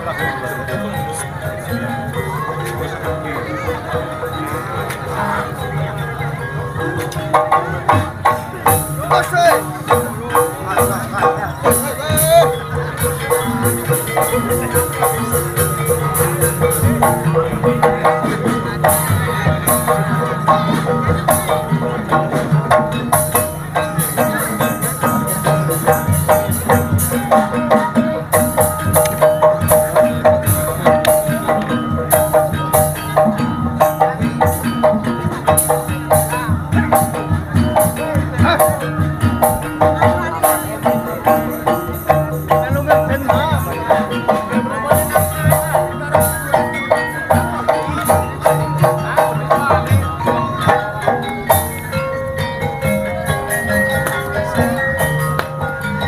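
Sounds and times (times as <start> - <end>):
gamelan metallic strikes: 0.0 - 56.0
jingling metal percussion: 0.0 - 56.0
drum beat: 6.6 - 56.0.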